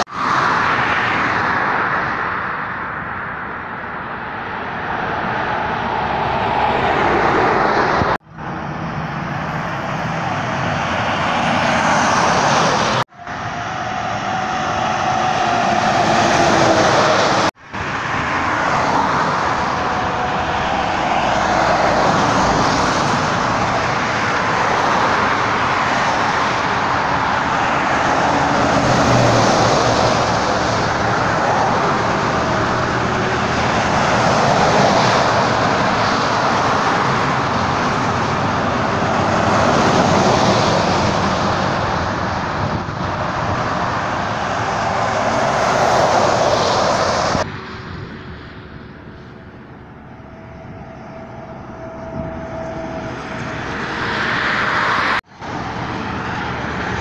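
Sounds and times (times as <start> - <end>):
distant traffic hum: 0.0 - 57.0
trucks and cars passing: 0.0 - 57.0.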